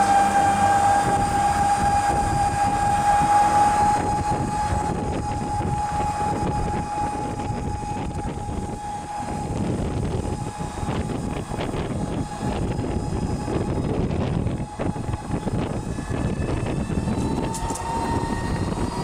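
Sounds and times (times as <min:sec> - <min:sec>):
high-pitched whine: 0:00.0 - 0:19.0
road and wind noise: 0:00.0 - 0:19.0.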